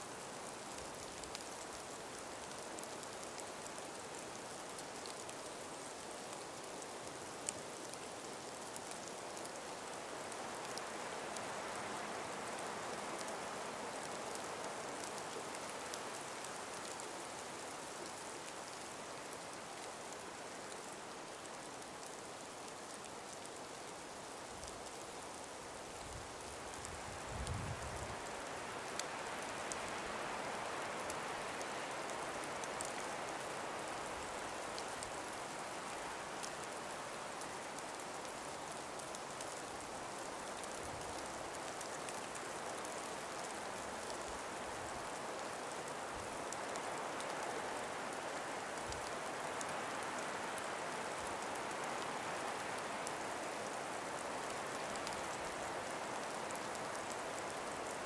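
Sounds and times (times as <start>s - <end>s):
breeze hissing through forest: 0.0s - 58.0s
faint ticks: 10.2s - 58.0s.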